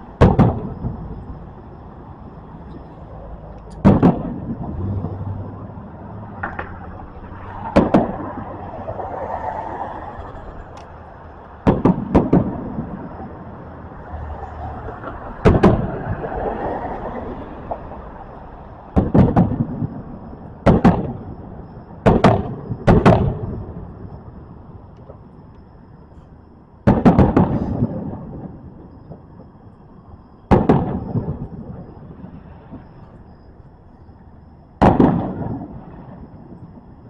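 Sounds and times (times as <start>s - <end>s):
fireworks booming: 0.0s - 3.1s, 3.7s - 17.0s, 18.9s - 25.5s, 26.8s - 29.6s, 30.3s - 33.5s, 34.8s - 37.0s.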